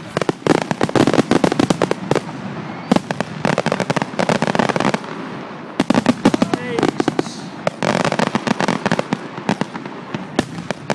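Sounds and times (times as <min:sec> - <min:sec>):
fireworks bangs and crackles: 0:00.0 - 0:10.9.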